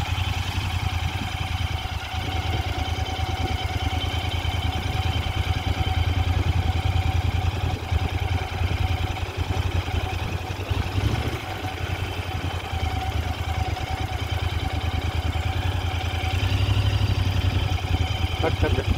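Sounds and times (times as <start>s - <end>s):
motorcycle engine at low revs: 0.0s - 18.9s.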